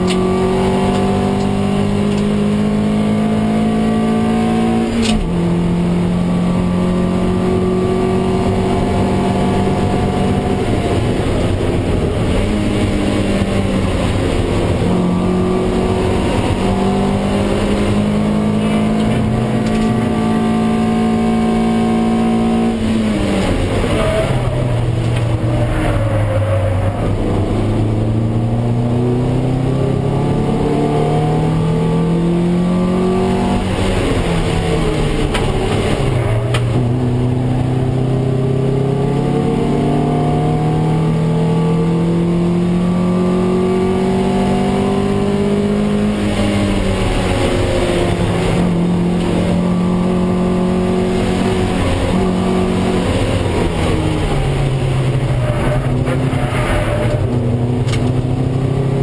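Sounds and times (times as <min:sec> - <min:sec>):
race car engine under full throttle: 0:00.0 - 0:59.0.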